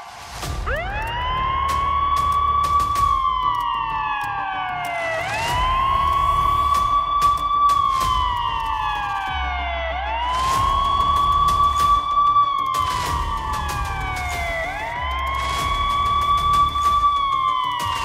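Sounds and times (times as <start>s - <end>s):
emergency siren wailing: 0.4s - 18.0s.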